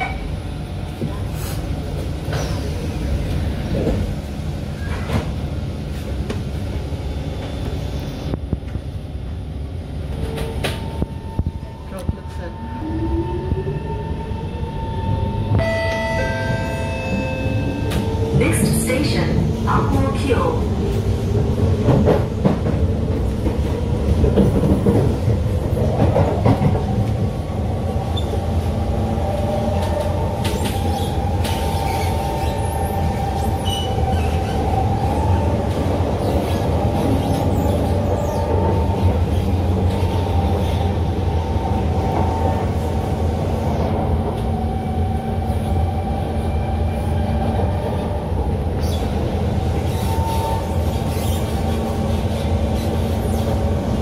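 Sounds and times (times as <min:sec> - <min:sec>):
metro train rumbling with whine: 0:00.0 - 0:54.0.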